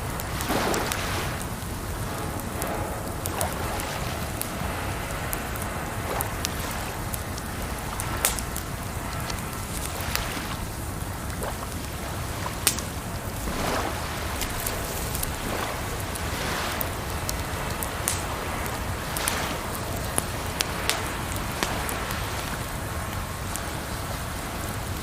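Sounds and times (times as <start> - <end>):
campfire crackling and popping: 0.0 - 25.0
rushing water: 0.0 - 25.0.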